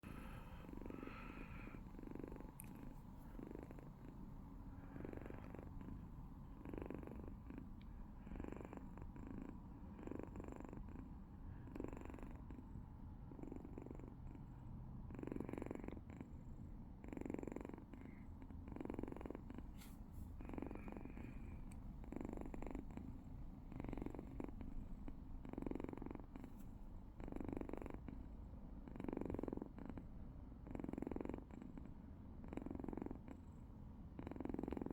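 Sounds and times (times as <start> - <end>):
kitten purring: 0.0 - 34.9.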